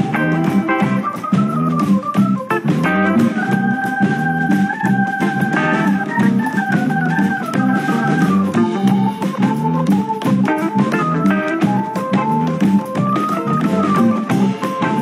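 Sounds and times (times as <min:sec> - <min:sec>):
held keyboard notes: 0:00.0 - 0:15.0
steady beat: 0:00.0 - 0:15.0.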